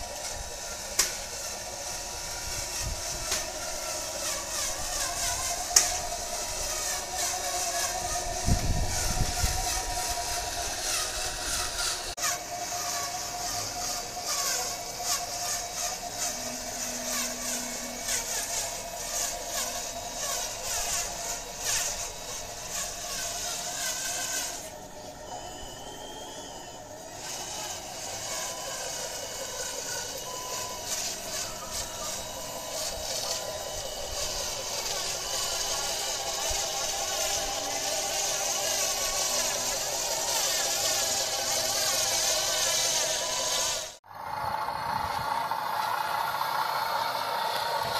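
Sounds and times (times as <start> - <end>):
electric motors whining: 0.0 - 47.9.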